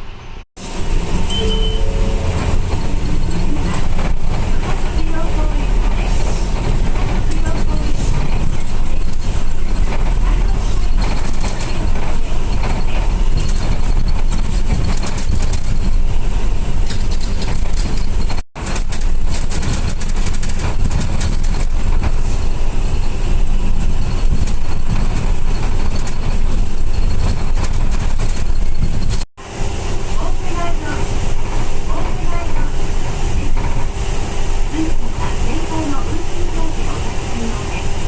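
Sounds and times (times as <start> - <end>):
bus engine and road noise: 0.0 - 38.0.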